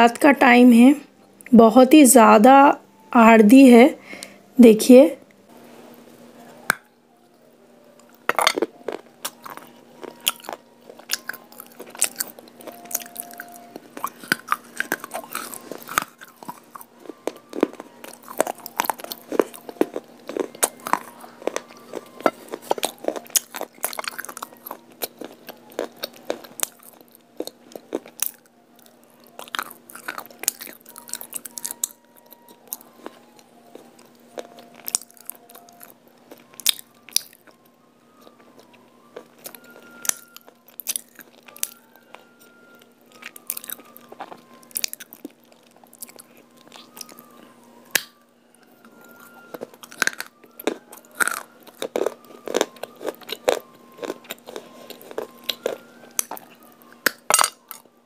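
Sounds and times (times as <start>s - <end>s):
chewing brittle clay crunches: 8.0s - 37.6s, 38.2s - 48.2s, 48.8s - 57.9s.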